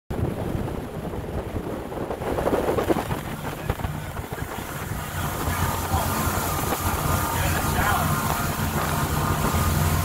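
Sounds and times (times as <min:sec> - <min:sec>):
hull rushing through water: 0:00.1 - 0:10.0
outboard motors droning: 0:00.1 - 0:10.0
wind buffeting microphone: 0:00.1 - 0:10.0.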